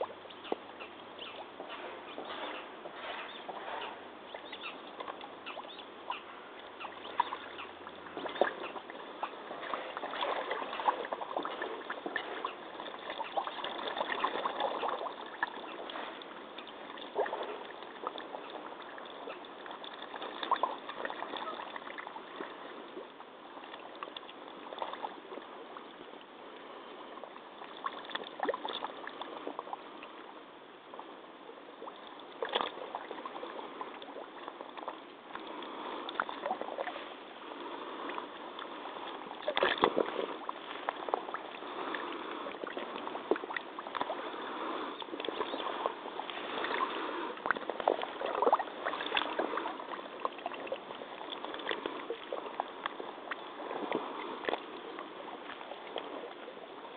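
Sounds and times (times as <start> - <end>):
mud water sloshing around waders: 0.0 - 26.0, 31.7 - 56.9.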